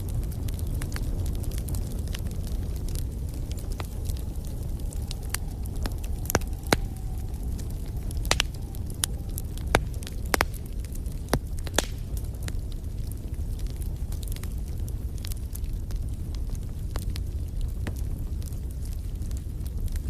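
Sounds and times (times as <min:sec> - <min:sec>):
low rumble of flames: 0:00.0 - 0:20.0
wood fire pops and snaps: 0:00.0 - 0:20.0.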